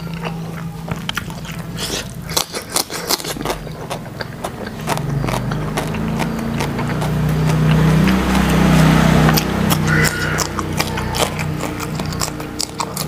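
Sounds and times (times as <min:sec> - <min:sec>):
closed-mouth hum: 0:00.0 - 0:13.0
person chewing with mouth smacks: 0:00.0 - 0:13.0.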